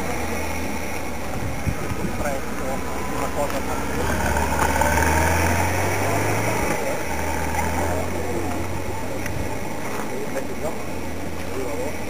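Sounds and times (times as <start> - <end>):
faint voices chatting: 0.0 - 12.0.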